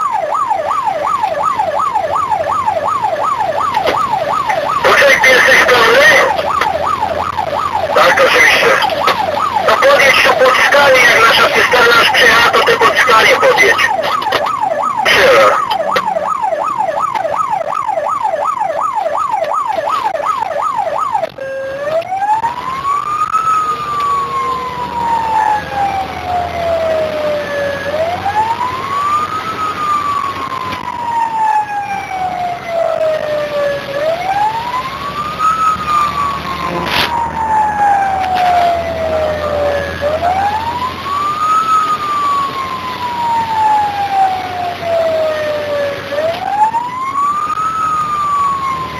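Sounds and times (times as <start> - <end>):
fire engine siren: 0.0 - 48.9
truck engine: 0.0 - 48.9.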